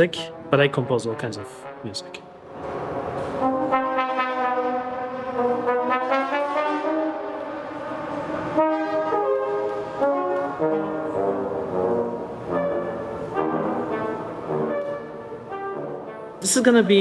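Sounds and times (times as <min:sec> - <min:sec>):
slow sustained brass notes: 0:00.0 - 0:16.5.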